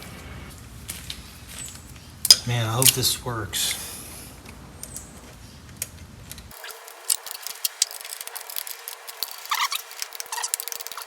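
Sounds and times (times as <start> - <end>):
hand tools clicking on metal: 0.9 - 3.8, 4.4 - 11.0.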